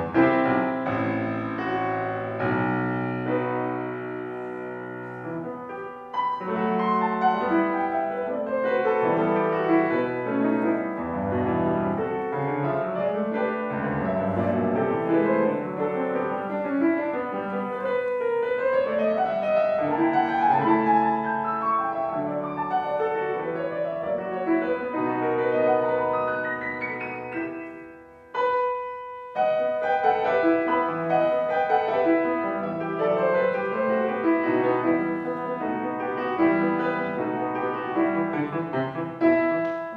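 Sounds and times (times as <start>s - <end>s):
piano playing classical piece: 0.0s - 39.9s.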